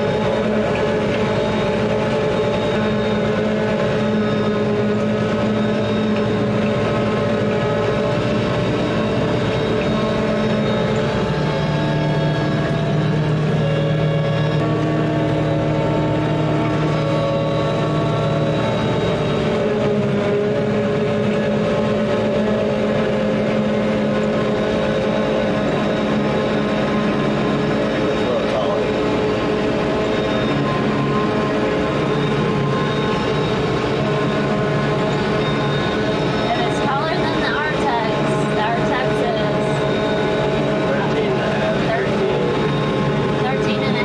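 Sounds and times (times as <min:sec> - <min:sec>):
harvester droning: 0:00.0 - 0:44.0.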